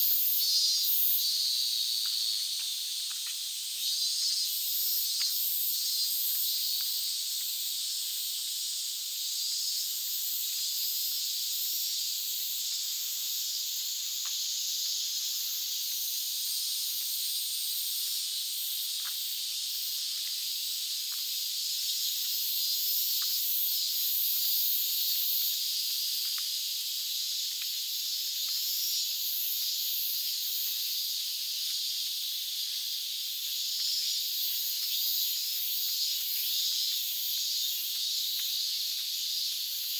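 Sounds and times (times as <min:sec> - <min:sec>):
cicadas shrilling: 0:00.0 - 0:39.9
faint ticks: 0:00.1 - 0:08.0, 0:13.8 - 0:16.0, 0:18.0 - 0:39.9.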